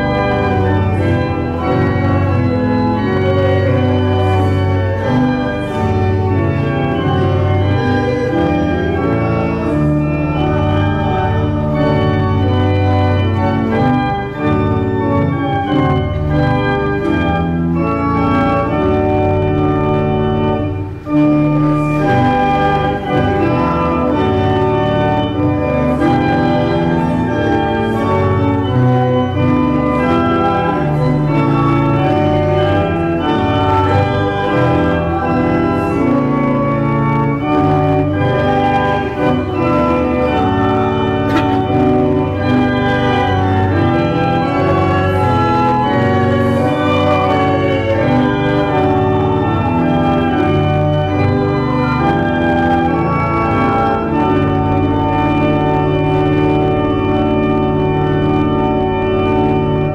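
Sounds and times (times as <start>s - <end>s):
pipe organ playing hymn: 0.0s - 59.9s.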